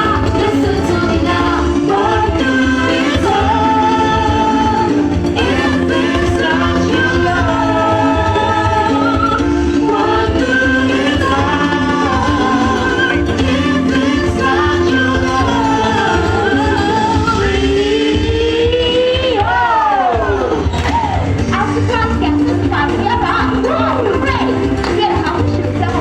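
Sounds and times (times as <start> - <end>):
latin song with singing: 0.0 - 26.0.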